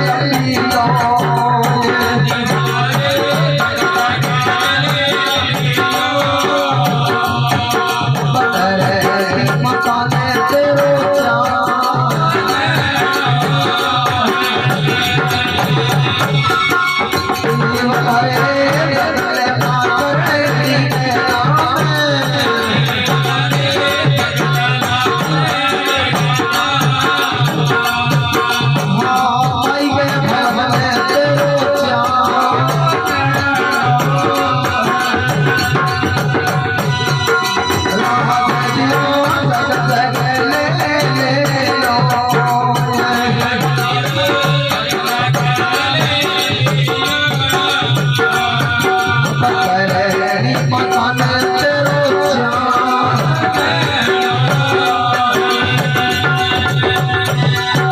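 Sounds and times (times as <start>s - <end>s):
steady drum beat: 0.0s - 57.9s.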